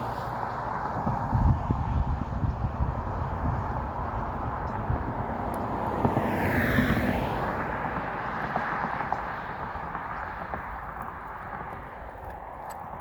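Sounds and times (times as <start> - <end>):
vehicle passing by: 0.0 - 12.1.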